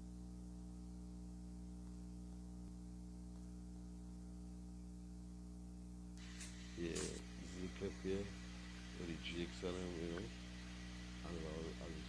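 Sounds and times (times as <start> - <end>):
faint hiss: 0.0 - 12.0
low electrical hum: 0.0 - 12.0.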